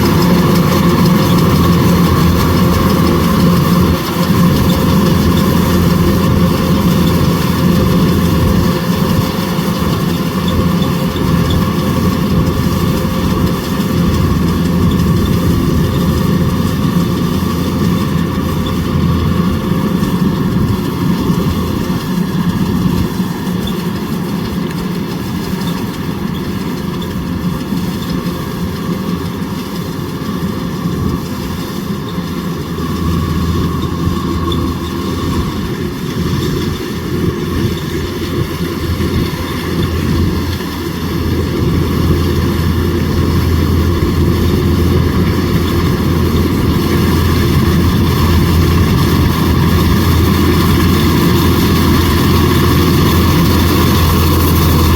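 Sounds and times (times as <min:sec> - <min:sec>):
combine harvester running: 0:00.0 - 0:54.9.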